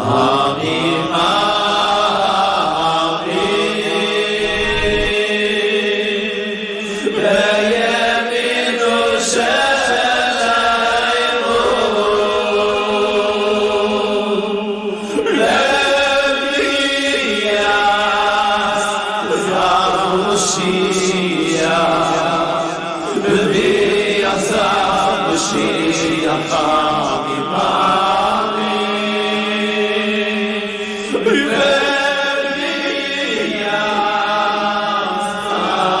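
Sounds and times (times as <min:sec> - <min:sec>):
voices singing a chant: 0:00.0 - 0:36.0.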